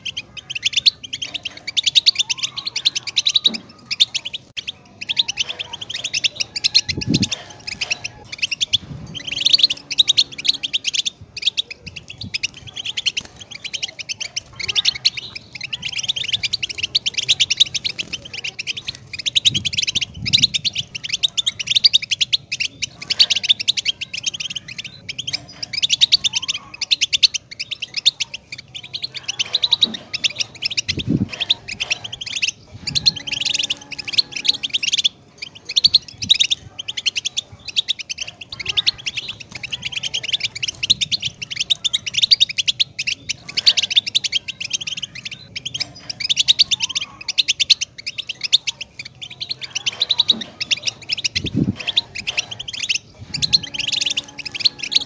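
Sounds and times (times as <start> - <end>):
bird twittering song: 0.0 - 55.0.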